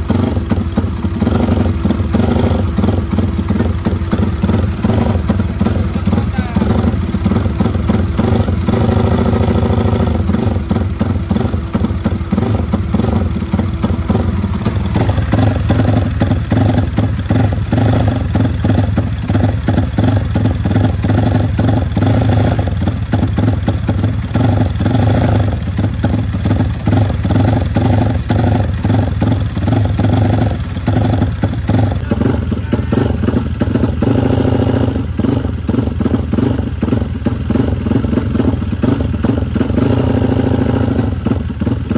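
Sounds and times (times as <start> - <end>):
motorcycle engine running loud: 0.0 - 41.9.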